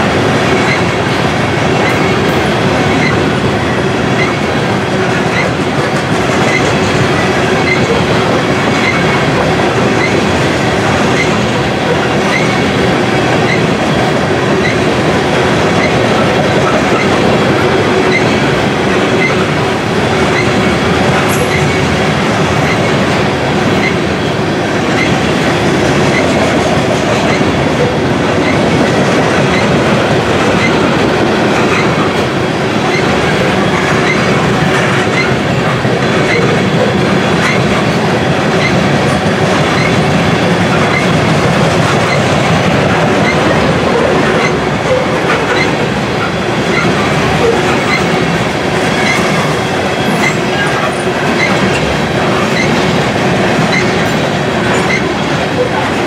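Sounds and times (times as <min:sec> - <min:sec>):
freight train wheels rumbling: 0:00.0 - 0:56.0
wheels clickety-clack over track: 0:00.0 - 0:56.0.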